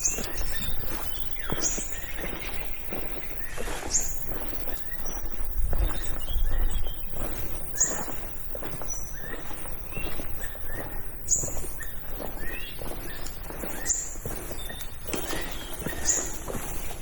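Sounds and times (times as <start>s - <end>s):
birds chirping: 0.0s - 17.0s
footsteps on forest floor: 0.0s - 17.0s.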